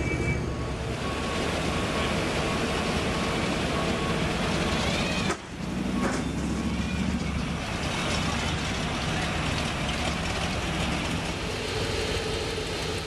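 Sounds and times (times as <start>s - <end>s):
car engine rumbling: 1.0s - 13.0s.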